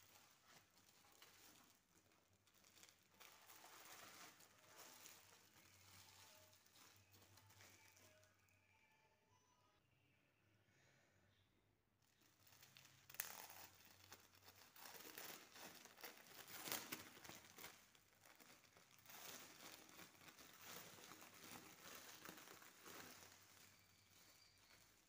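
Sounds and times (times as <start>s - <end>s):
sharp crackle: 0.0s - 8.4s, 12.2s - 25.0s
plastic wrapper crinkling: 0.0s - 8.5s, 12.1s - 25.0s.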